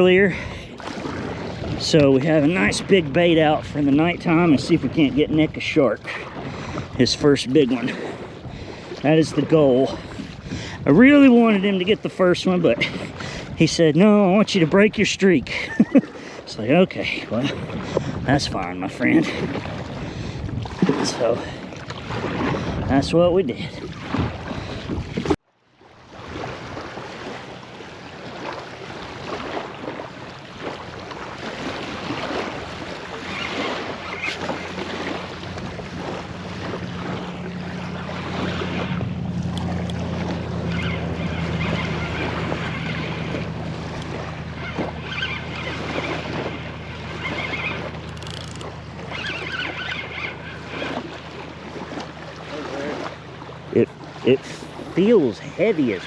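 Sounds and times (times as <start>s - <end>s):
wind buffeting microphone: 0.0s - 16.5s, 17.3s - 25.4s, 26.2s - 49.6s
water sloshing around kayak: 0.0s - 56.0s.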